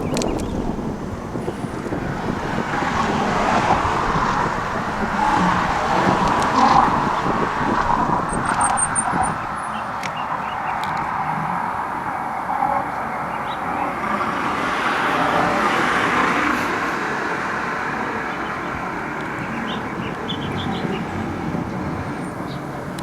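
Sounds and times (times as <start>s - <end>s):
road traffic passing: 0.0s - 23.0s.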